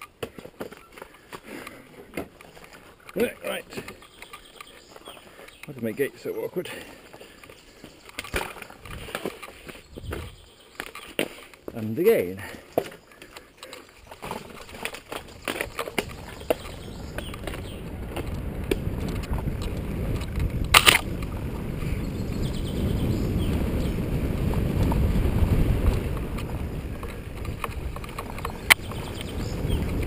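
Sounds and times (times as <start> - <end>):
bike rattles and clicks: 0.0 - 30.0
tyres and wind rumbling: 0.0 - 30.0.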